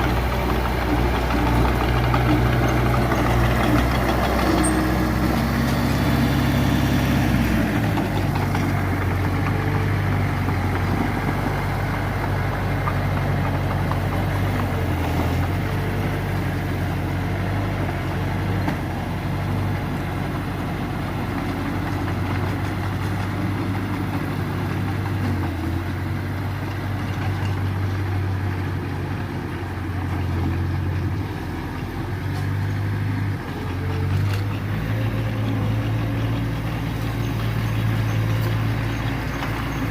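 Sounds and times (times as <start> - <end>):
diesel engine running at low revs: 0.0 - 39.9.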